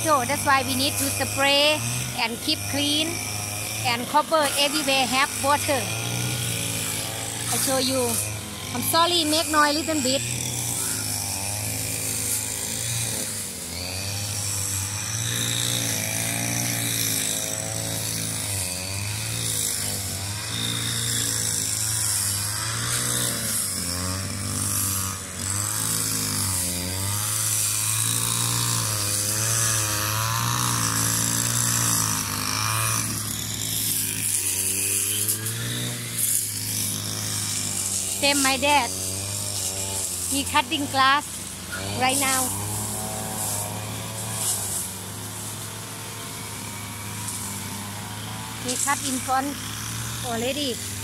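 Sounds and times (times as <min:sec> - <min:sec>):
brush cutter engine running: 0:00.0 - 0:51.0.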